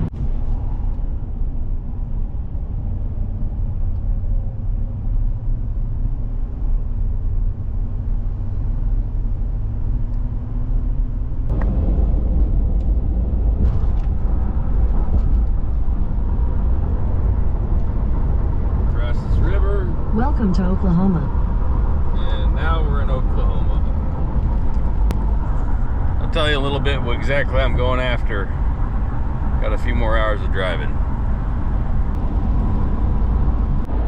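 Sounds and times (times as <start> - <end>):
pickup truck driving: 0.0 - 34.0.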